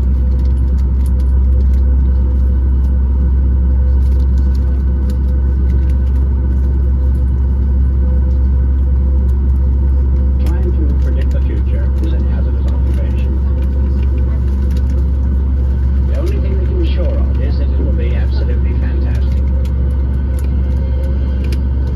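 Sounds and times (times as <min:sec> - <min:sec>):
airplane cabin rumble: 0:00.0 - 0:21.9.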